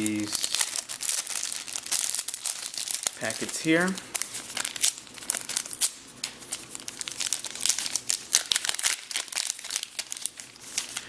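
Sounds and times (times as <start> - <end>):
packet crinkling: 0.0 - 11.0.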